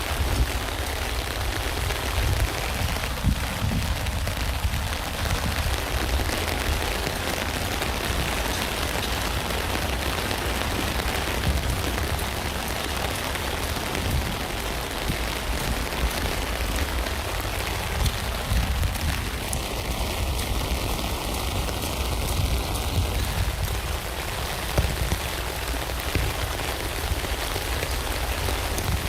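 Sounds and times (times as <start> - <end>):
rain on a tent: 0.0 - 29.0.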